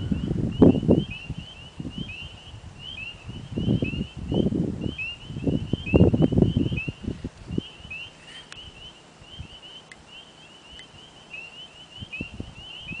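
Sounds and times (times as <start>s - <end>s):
frogs chirping chorus: 0.0s - 13.0s.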